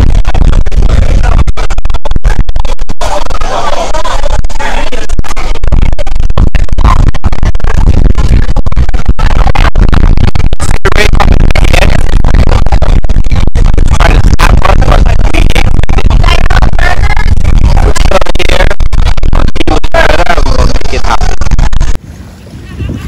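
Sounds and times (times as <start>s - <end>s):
music with heavy bass: 0.0s - 22.0s.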